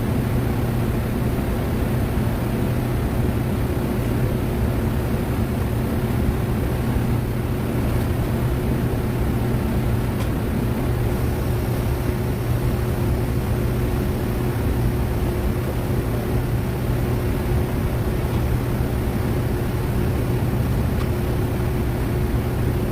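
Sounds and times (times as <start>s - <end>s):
machine hum: 0.0s - 22.9s.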